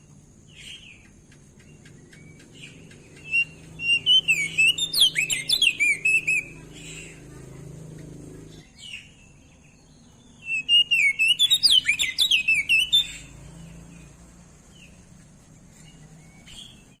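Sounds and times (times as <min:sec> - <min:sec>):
bird twittering song: 0:00.0 - 0:17.0.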